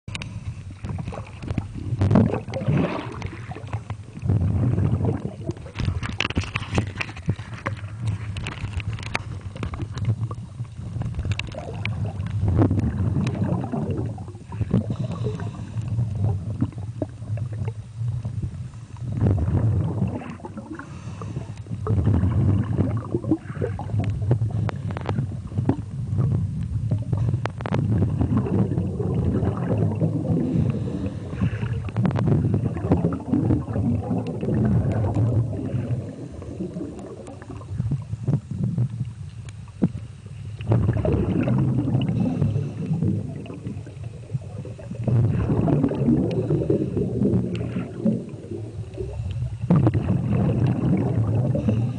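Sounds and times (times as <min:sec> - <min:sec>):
underwater water rumble: 0:00.0 - 0:51.9.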